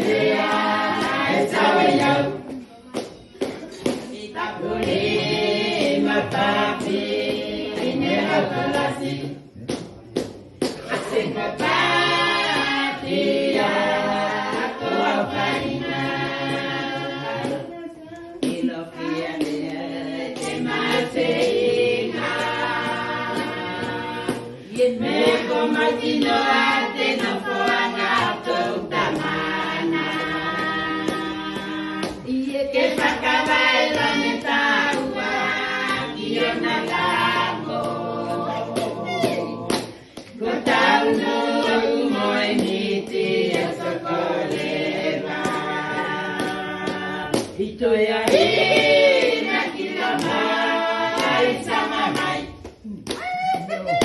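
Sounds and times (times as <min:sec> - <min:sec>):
group of people singing: 0:00.0 - 0:54.0.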